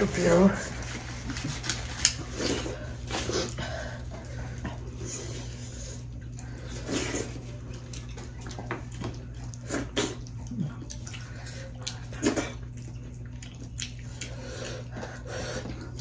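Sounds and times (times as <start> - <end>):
steady low hum: 0.0 - 16.0
mouths chewing and slurping: 0.1 - 16.0.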